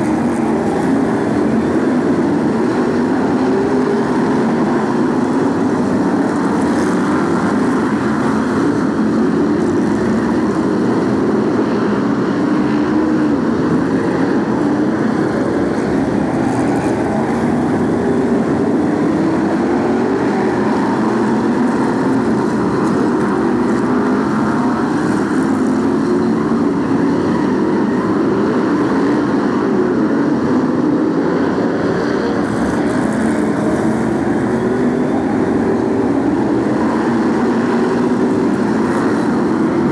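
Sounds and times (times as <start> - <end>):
racing car engines roaring: 0.0 - 39.9.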